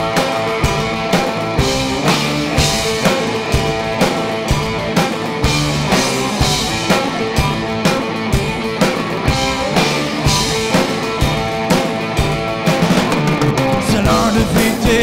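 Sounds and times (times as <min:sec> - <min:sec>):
drum kit beat: 0:00.0 - 0:15.0
guitar chords: 0:00.0 - 0:15.0.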